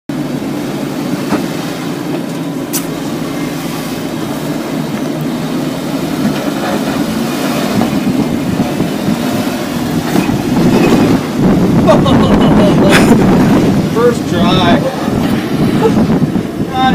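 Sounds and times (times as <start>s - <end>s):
engine running at low revs: 0.1s - 16.9s.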